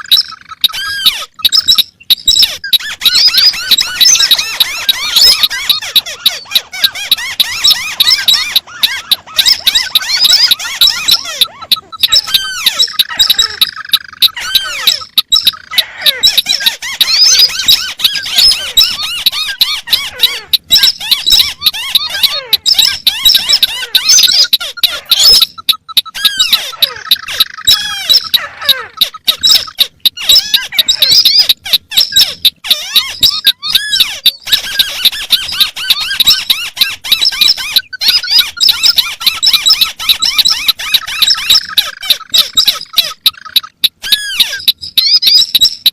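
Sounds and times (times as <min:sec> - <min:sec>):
crake calls chattering: 0:00.0 - 0:45.9.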